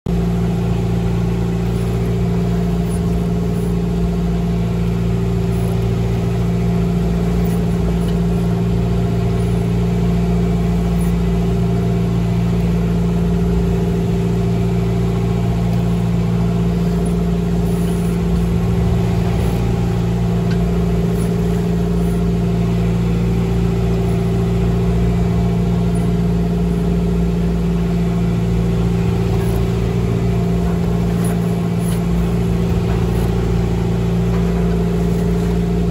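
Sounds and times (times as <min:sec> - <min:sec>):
boat engine humming: 0:00.0 - 0:35.9.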